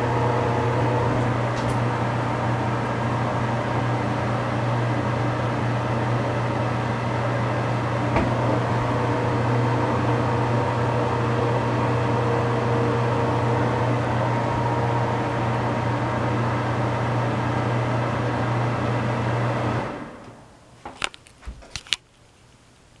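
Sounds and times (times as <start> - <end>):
exhaust fan humming: 0.0 - 22.0.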